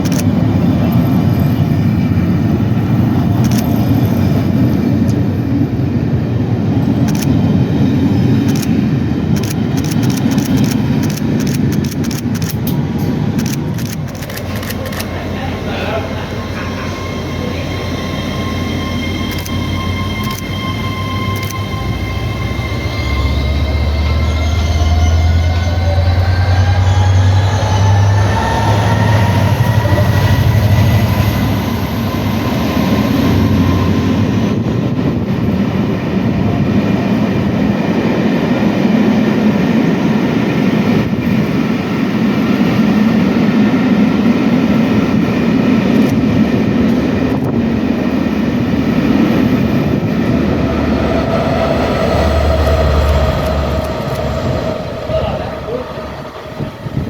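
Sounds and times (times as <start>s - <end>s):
rumble of wheels on rail: 0.0s - 57.0s
train rising whine: 0.0s - 57.0s.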